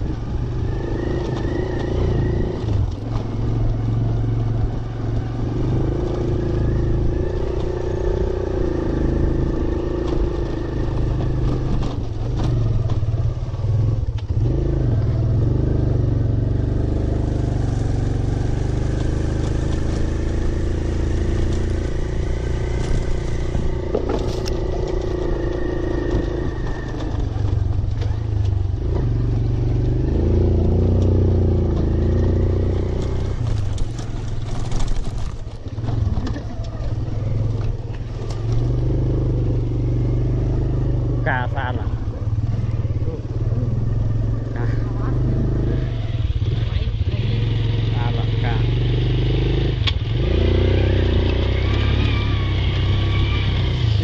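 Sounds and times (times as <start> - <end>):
small motorcycle engine revving: 0.0 - 54.0.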